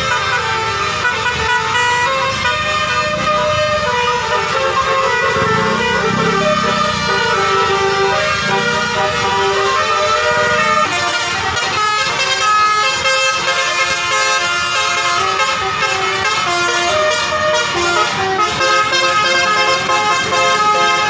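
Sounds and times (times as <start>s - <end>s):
bus horn playing a tune: 0.0s - 21.0s
bus rumble: 0.0s - 21.0s.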